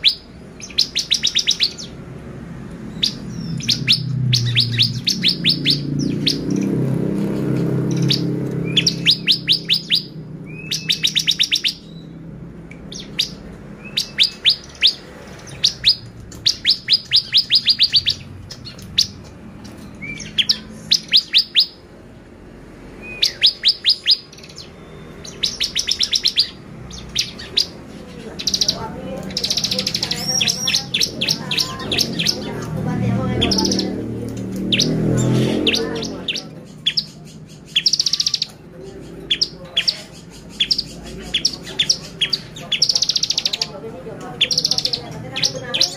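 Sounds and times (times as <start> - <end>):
bird trilling high chips: 0.0 - 2.0, 2.9 - 12.2, 12.8 - 21.9, 23.0 - 43.7.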